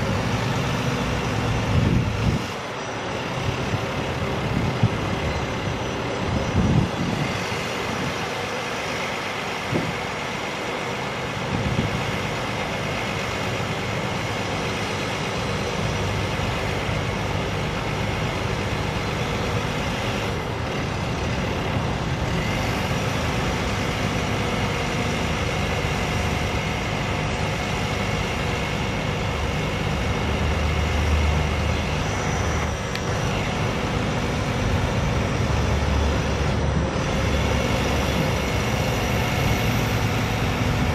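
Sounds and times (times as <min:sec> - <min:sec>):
diesel truck engine running: 0:00.0 - 0:40.9
thin steady whine: 0:00.0 - 0:40.9.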